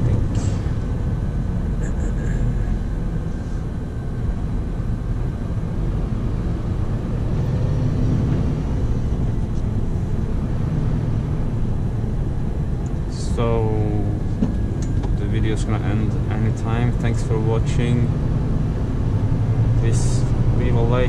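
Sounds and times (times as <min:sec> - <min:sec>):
diesel truck engine drone: 0:00.0 - 0:21.0.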